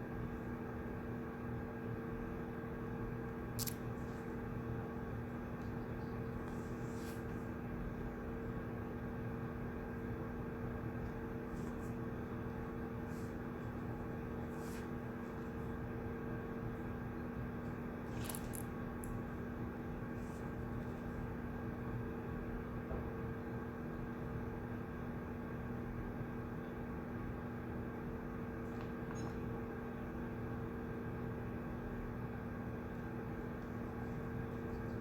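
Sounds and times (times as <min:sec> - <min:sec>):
steady room hum: 0:00.0 - 0:35.0.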